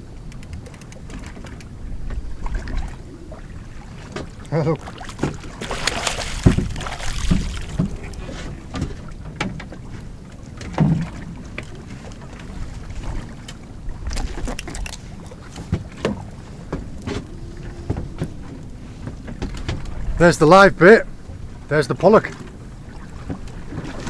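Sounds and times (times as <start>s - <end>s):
low rumble of wind and water: 0.0s - 24.0s.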